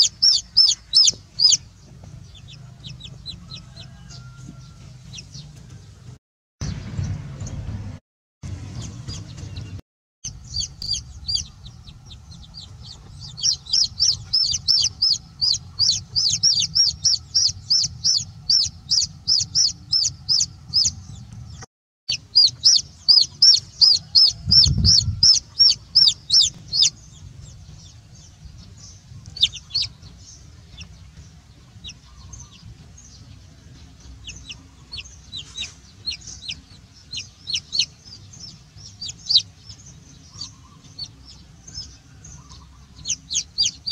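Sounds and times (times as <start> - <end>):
chick peeping: 0.0 - 5.9, 8.8 - 43.9.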